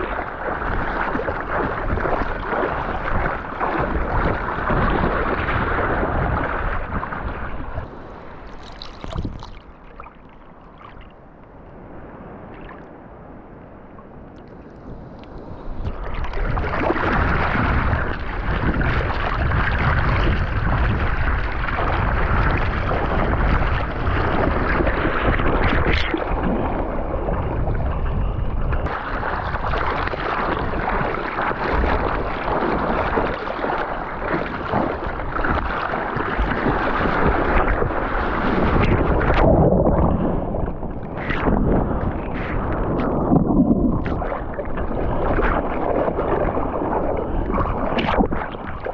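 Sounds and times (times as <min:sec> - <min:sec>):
sea water rushing and splashing: 0:00.0 - 0:48.9
wind buffeting microphone: 0:00.0 - 0:48.9.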